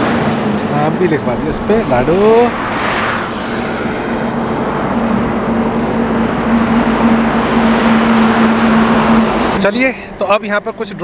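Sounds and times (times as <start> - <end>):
steady traffic hum: 0.0 - 11.0
vehicle engine and tyre noise: 0.0 - 11.0.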